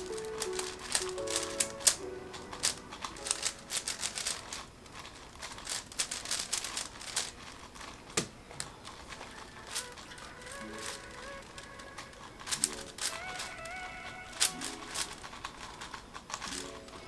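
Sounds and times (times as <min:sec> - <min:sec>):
puzzle cube clicking and rattling: 0:00.0 - 0:17.0.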